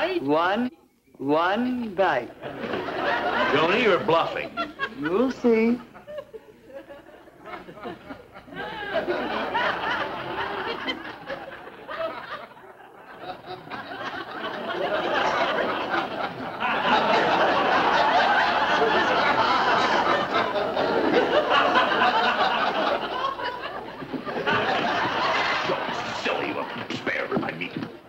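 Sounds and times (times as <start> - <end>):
studio audience laughing: 2.4 - 27.5.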